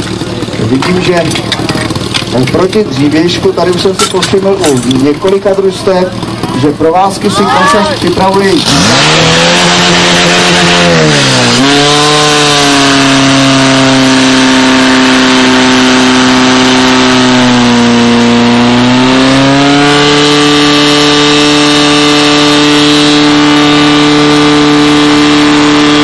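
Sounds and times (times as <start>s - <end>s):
pump engine running at high revs: 0.0s - 26.0s.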